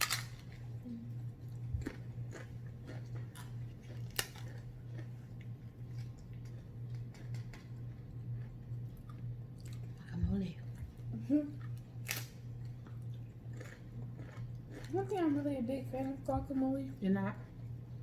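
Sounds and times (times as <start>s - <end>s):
chewing with crunches: 0.0s - 17.0s
steady low hum: 0.0s - 18.0s.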